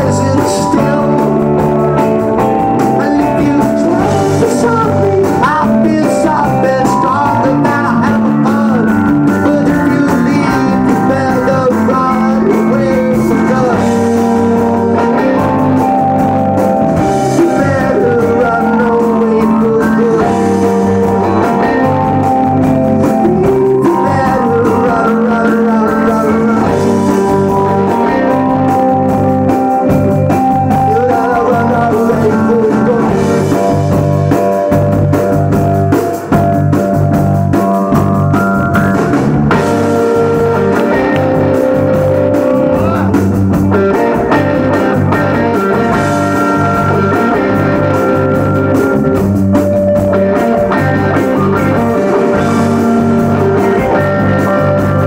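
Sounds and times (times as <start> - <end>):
live rock band with singer: 0.0 - 55.0.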